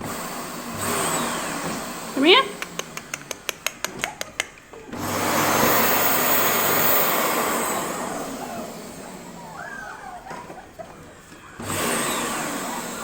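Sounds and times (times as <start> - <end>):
vacuum cleaner running: 0.0 - 3.0, 4.8 - 13.0.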